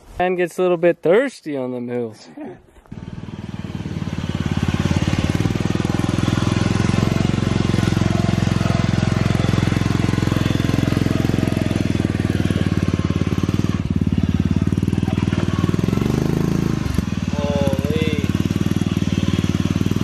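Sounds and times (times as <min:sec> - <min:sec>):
small engine running: 0:02.9 - 0:20.0.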